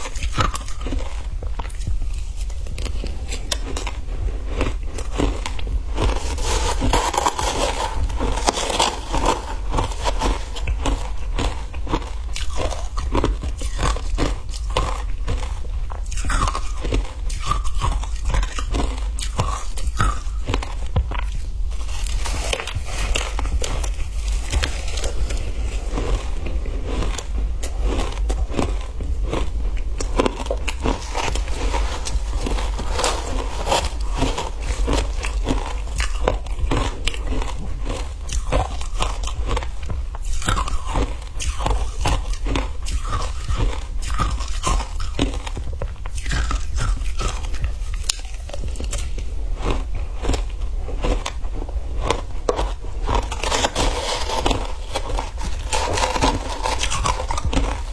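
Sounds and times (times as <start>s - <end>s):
crunching of frozen ice: 0.0s - 57.9s.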